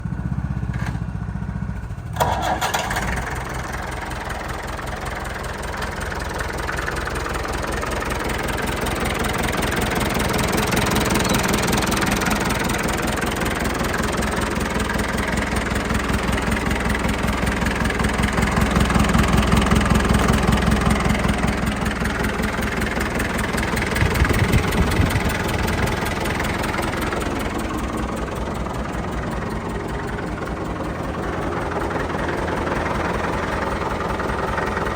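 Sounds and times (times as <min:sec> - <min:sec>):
tractor engine running: 0:00.0 - 0:34.9
tractor engine cranking: 0:00.2 - 0:34.9.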